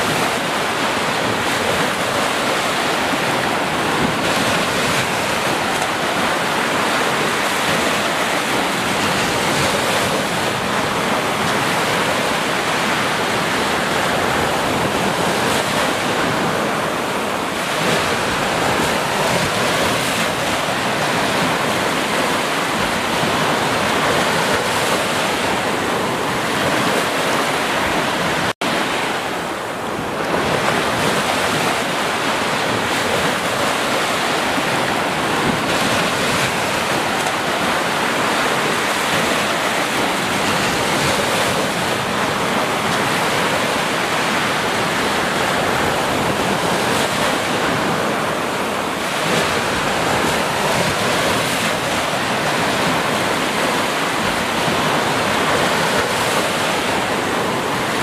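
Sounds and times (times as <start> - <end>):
waves breaking on a beach: 0.0 - 58.0.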